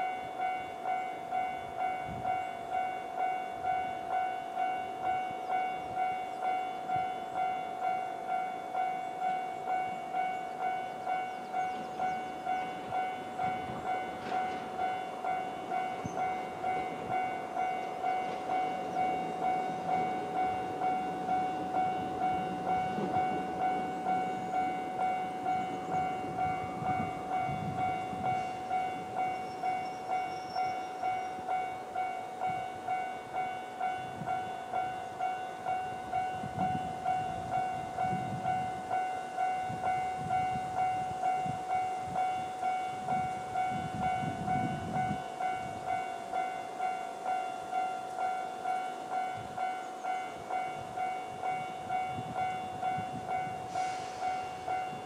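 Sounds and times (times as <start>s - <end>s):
level-crossing warning bell: 0.0s - 55.0s.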